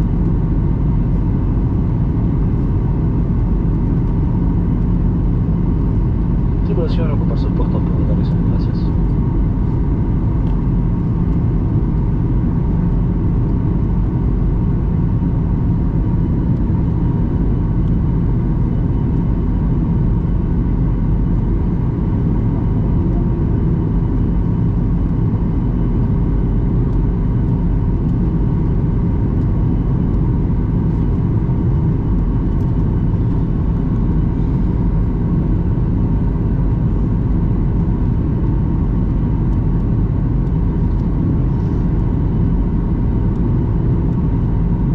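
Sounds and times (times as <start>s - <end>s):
airplane cabin drone: 0.0s - 44.9s.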